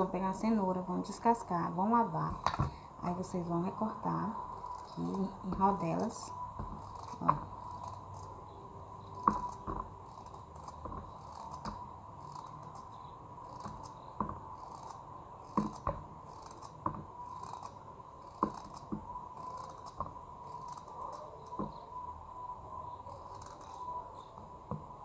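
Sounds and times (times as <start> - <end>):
high regular chirping: 3.0 - 24.4.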